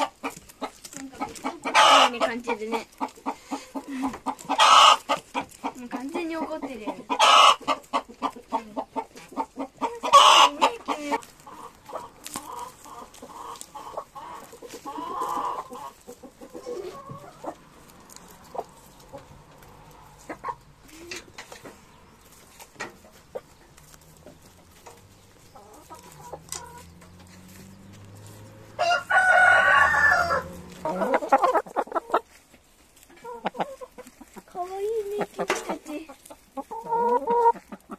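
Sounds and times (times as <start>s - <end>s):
hens clucking: 0.0s - 37.9s
loud hen calls: 1.4s - 32.3s, 35.2s - 37.9s.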